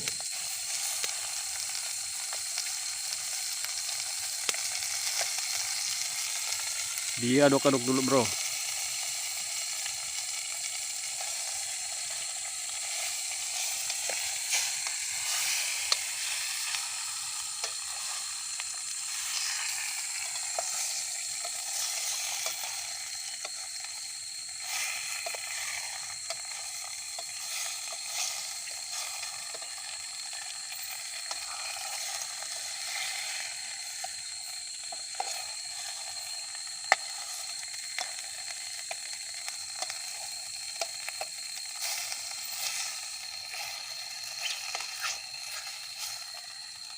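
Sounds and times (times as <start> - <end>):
fish sizzling in a pan: 0.0 - 46.9.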